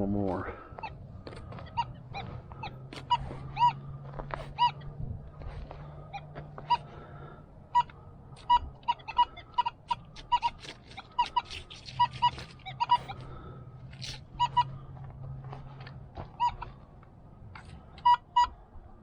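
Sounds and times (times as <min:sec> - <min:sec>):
geese honking: 0:00.0 - 0:16.9, 0:17.5 - 0:19.0.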